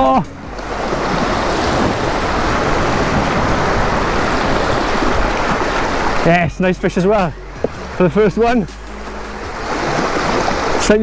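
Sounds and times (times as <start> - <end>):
waves breaking over rocks: 0.5 - 6.5, 7.1 - 11.0.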